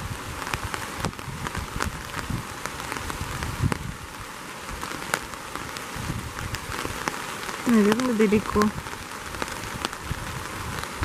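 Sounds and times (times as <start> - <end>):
rain falling steadily: 0.0 - 11.0
raindrops tapping close: 0.0 - 11.0.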